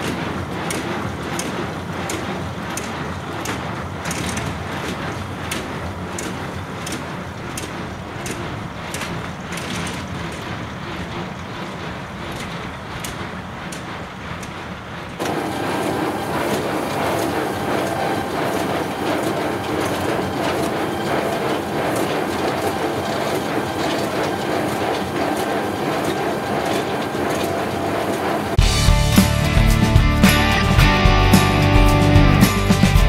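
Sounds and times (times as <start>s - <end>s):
baler mechanical clatter: 0.0s - 33.0s.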